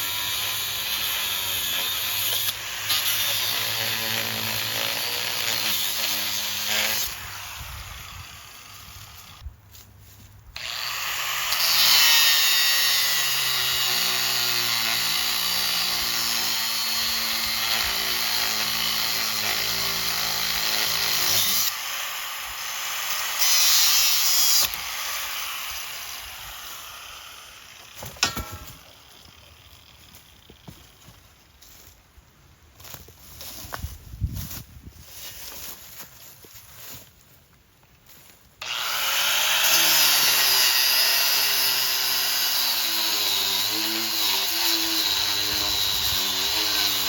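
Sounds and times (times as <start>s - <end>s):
angle grinder cutting steel: 0.0s - 9.4s, 10.6s - 30.6s, 38.6s - 47.0s.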